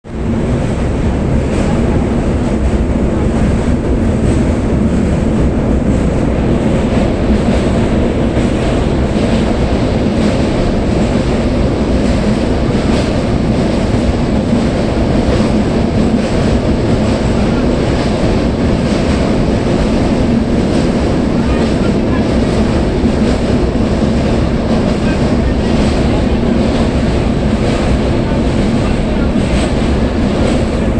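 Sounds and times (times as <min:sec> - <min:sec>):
train rumble and wheel noise: 0:00.0 - 0:30.9.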